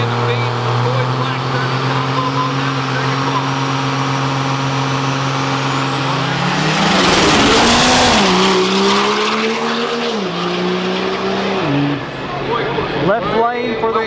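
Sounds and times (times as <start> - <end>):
diesel truck engines revving: 0.0 - 14.0.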